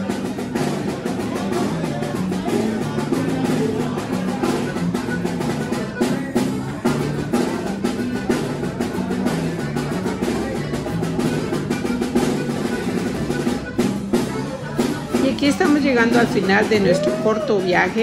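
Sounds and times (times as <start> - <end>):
bass line: 0.0 - 18.0
drums: 0.0 - 18.0
upbeat band music: 0.0 - 18.0.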